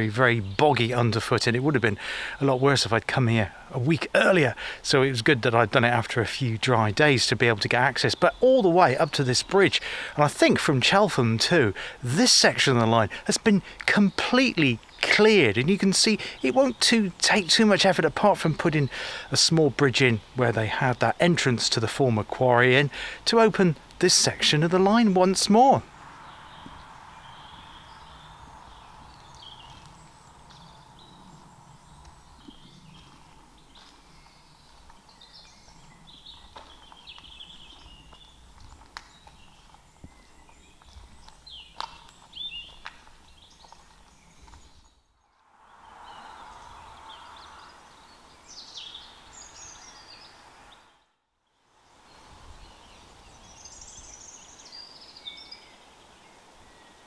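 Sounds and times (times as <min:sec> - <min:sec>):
birds chirping and trilling: 0:00.0 - 0:51.2, 0:51.8 - 0:57.0.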